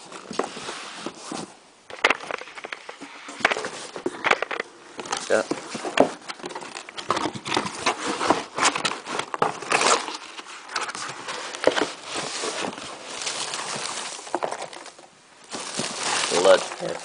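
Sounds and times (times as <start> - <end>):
cardboard and paper rustling: 0.0 - 17.0.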